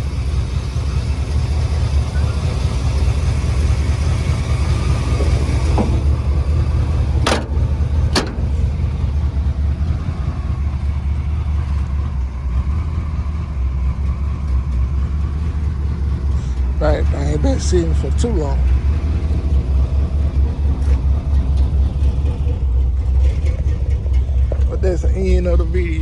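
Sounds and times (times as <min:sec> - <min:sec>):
truck engine rumbling: 0:00.0 - 0:26.0.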